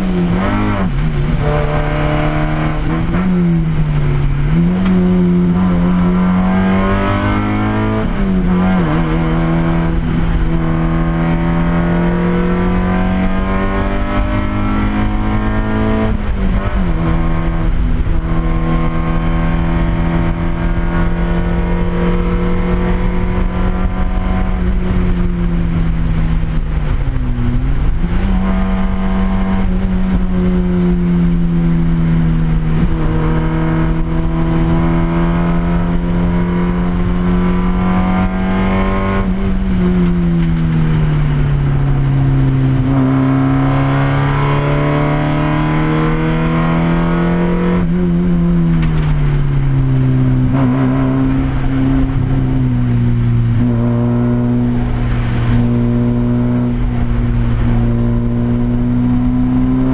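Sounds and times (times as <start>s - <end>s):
race car engine from cabin: 0.0s - 59.9s.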